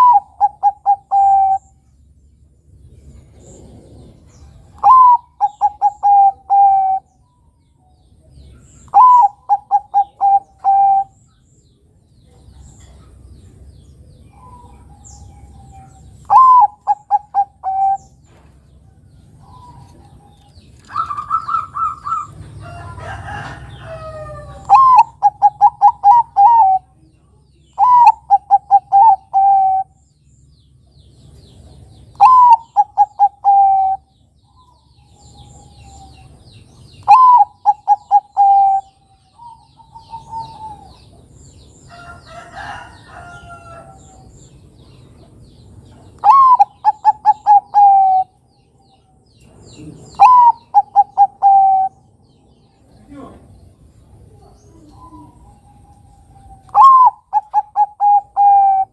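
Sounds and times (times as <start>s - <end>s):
dove cooing song: 0.0s - 1.8s, 2.9s - 11.4s, 12.3s - 30.0s, 31.6s - 58.9s.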